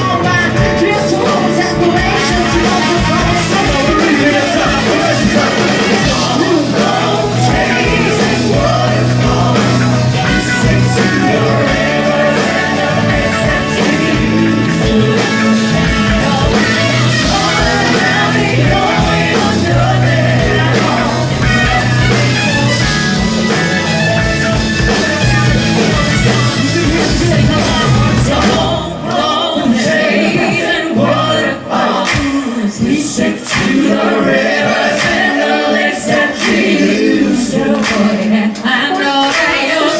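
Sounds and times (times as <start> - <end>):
music with singing voice: 0.0 - 39.9.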